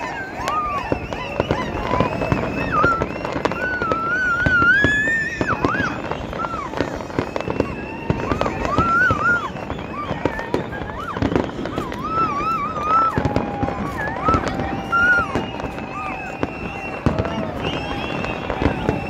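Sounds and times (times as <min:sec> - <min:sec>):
crowd calling out: 0:00.0 - 0:19.0
fireworks bursting and crackling: 0:00.0 - 0:19.0.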